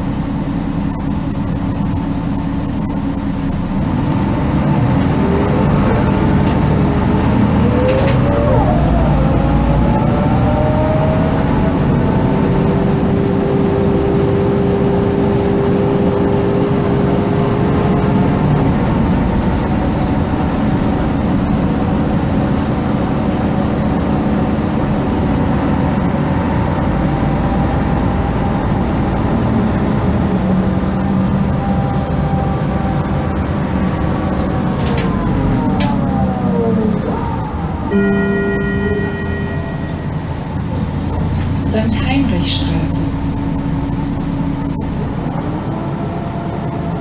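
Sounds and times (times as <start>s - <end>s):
bus diesel engine running: 0.0s - 47.0s
drivetrain whine: 0.0s - 47.0s.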